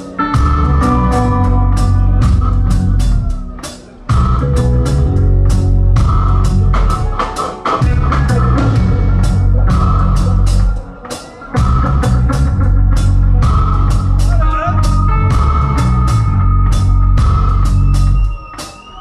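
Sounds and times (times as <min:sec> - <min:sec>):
reggae band playing: 0:00.0 - 0:19.0.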